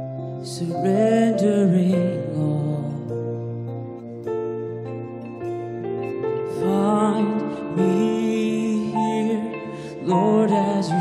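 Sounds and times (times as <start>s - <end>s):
slow instrumental worship music: 0.0s - 11.0s.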